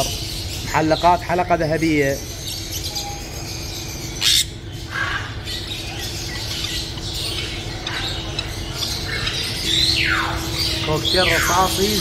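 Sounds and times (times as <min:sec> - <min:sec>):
parrots squawking and chirping: 0:00.0 - 0:12.0.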